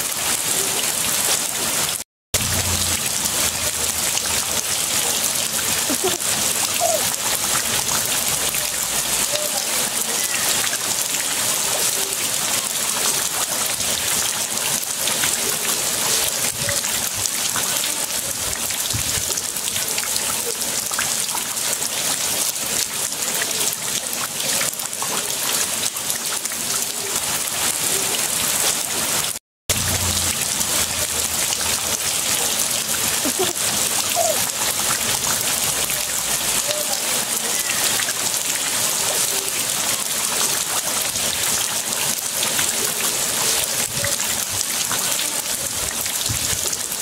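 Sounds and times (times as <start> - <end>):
heavy rain splashing: 0.0 - 47.0.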